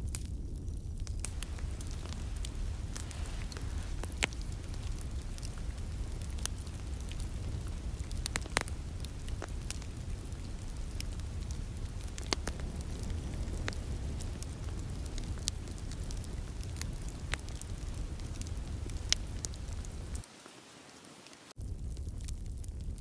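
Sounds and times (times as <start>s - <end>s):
fire flames rumbling and hissing: 0.0s - 20.3s, 21.6s - 23.0s
fire crackles and pops: 0.0s - 23.0s.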